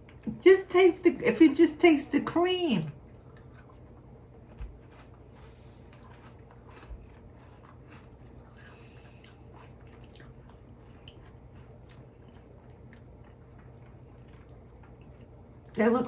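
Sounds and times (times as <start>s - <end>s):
chewing cookies: 0.0s - 16.0s
low room hum: 0.0s - 16.0s.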